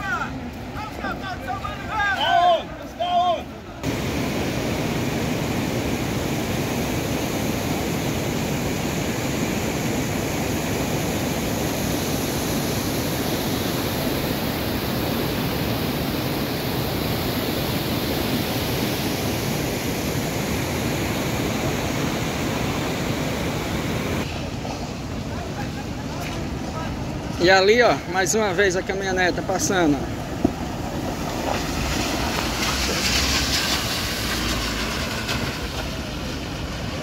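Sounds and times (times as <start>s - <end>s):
floodwater rushing across road: 0.0s - 37.0s.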